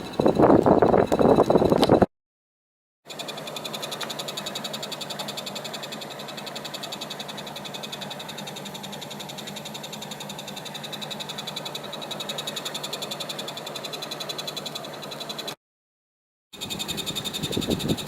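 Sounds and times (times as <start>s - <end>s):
air conditioner fast ticking: 0.0s - 1.8s, 3.1s - 15.6s, 16.6s - 18.0s.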